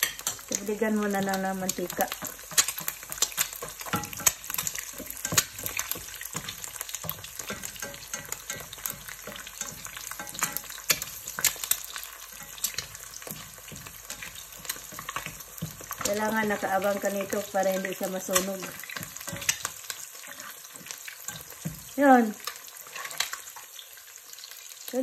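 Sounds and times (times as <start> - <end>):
eggs sizzling in oil: 0.0 - 25.0.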